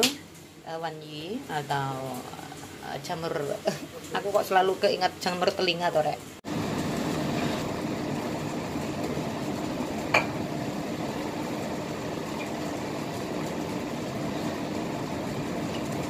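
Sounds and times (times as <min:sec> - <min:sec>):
range hood fan humming: 0:00.0 - 0:16.0
vegetables cooking in a wok: 0:00.0 - 0:16.0.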